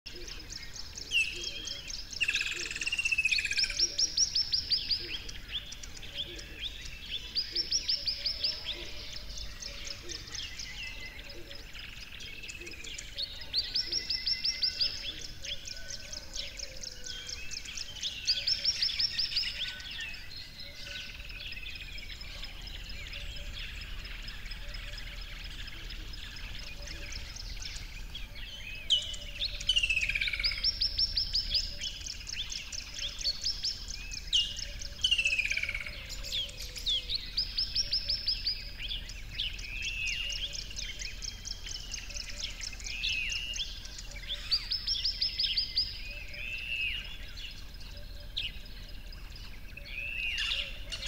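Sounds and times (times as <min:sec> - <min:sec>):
birds chirping: 0:00.1 - 0:51.0.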